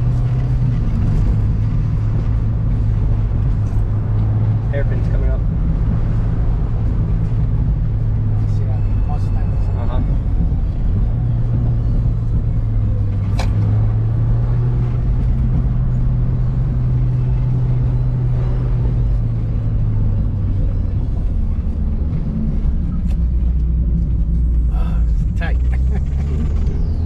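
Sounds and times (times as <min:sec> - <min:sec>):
car engine droning: 0:00.0 - 0:27.0
road and tyre noise: 0:00.0 - 0:27.0.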